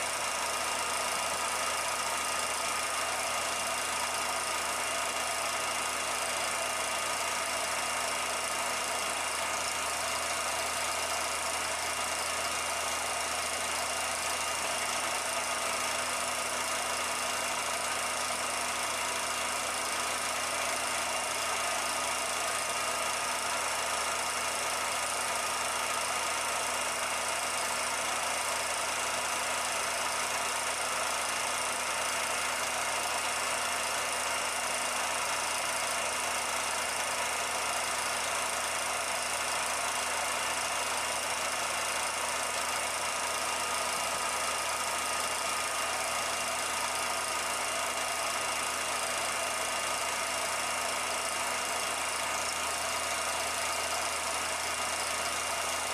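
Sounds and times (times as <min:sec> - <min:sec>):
film projector whirring: 0:00.0 - 0:55.9.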